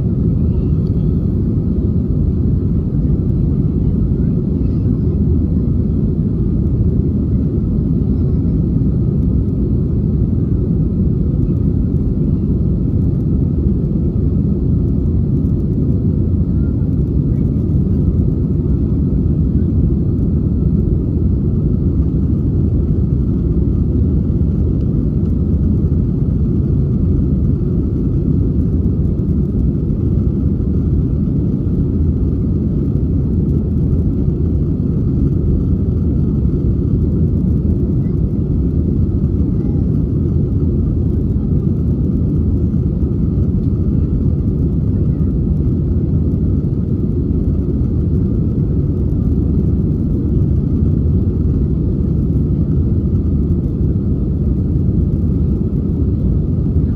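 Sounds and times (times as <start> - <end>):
jet engine cabin rumble: 0.0 - 56.9.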